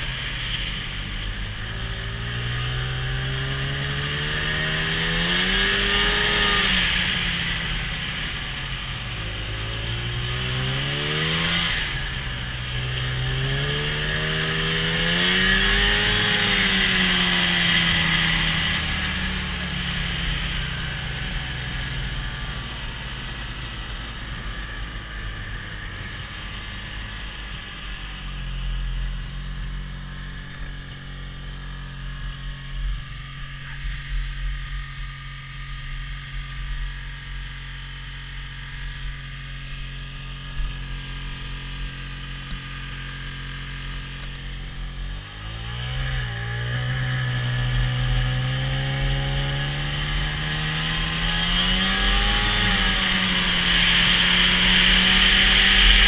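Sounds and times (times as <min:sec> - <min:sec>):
snowmobile engine: 0:00.0 - 0:56.0.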